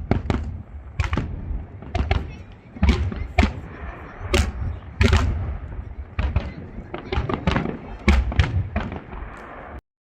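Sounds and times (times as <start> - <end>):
fireworks banging: 0.0 - 9.8.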